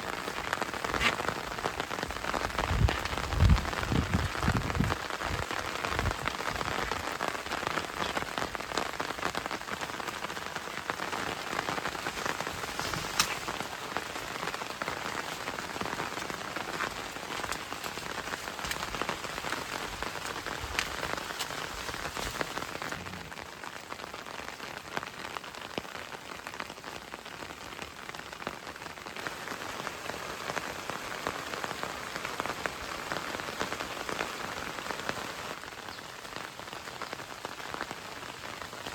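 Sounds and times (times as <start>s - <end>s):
rain falling: 0.0s - 38.9s
raindrops ticking on surfaces: 0.0s - 38.9s.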